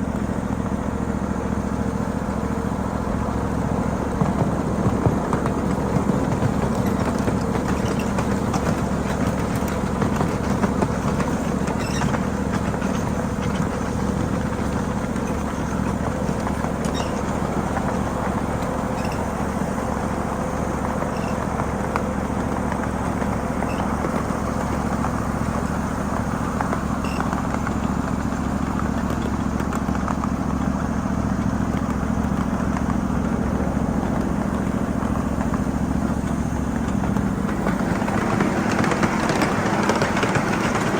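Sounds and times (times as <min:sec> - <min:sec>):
locomotive engine humming: 0:00.0 - 0:40.9
miniature train running on track: 0:00.0 - 0:40.9.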